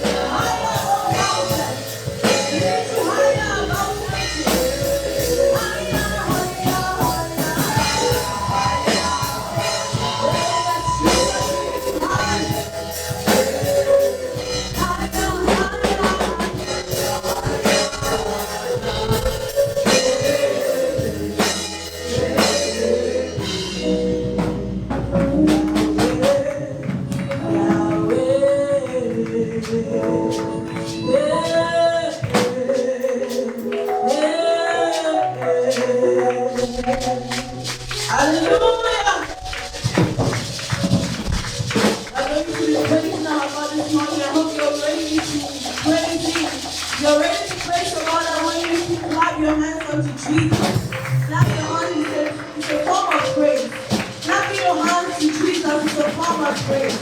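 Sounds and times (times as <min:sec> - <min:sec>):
voices singing: 0:00.0 - 0:24.6, 0:25.2 - 0:57.0
band playing: 0:00.0 - 0:57.0
drum kit: 0:00.0 - 0:57.0.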